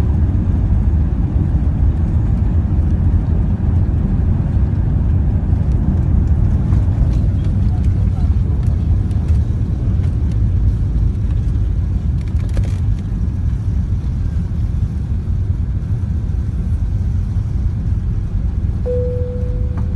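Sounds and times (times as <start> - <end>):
jet engine rumble: 0.0 - 19.9.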